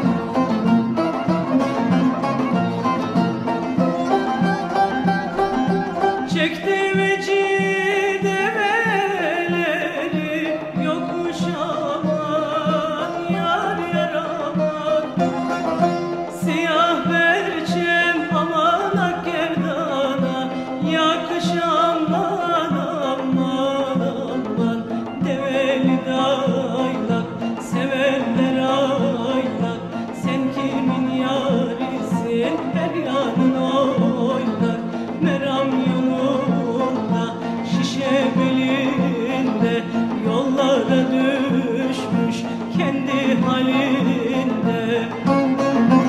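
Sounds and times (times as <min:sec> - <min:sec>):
folk ensemble playing melody: 0:00.0 - 0:46.0.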